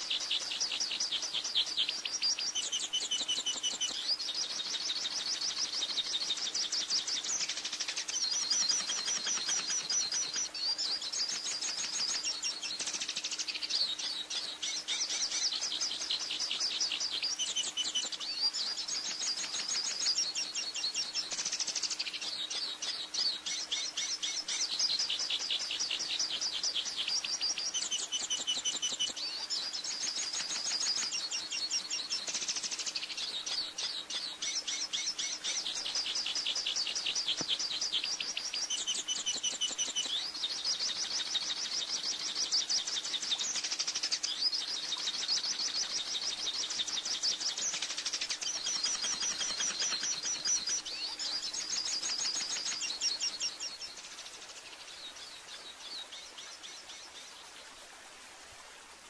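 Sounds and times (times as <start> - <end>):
bird twittering song: 0.0 - 58.4.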